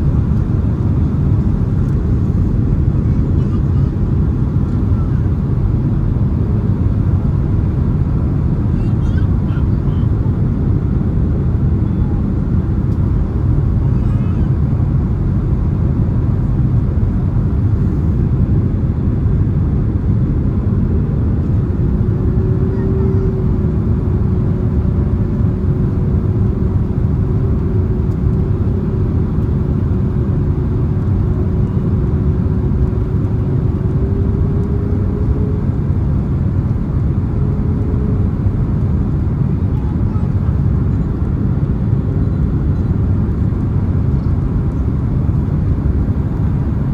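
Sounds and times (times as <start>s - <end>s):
jet engine and airflow rush: 0.0s - 46.9s.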